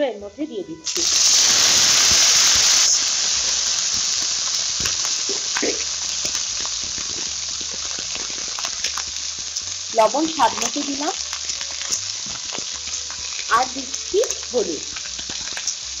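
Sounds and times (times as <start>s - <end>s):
vegetables sizzling in hot oil: 0.8s - 16.0s.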